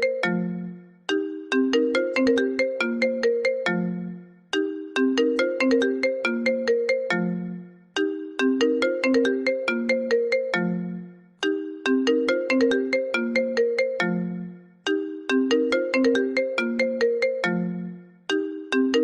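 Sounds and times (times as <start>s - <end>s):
phone ringtone melody: 0.0s - 19.0s.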